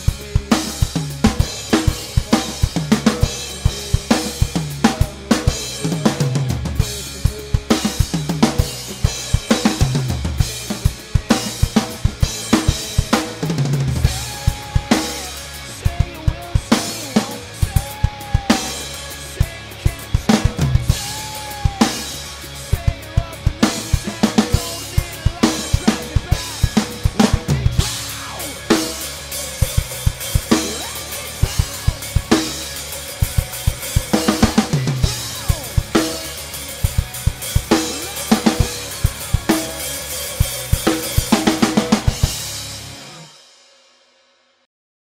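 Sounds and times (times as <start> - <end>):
music with drum-kit beat: 0.0 - 44.1.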